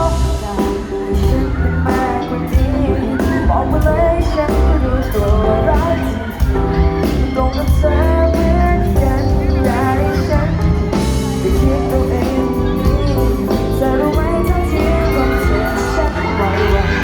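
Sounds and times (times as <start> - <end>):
band with bass and drums: 0.0 - 17.0
woman singing: 0.0 - 17.0.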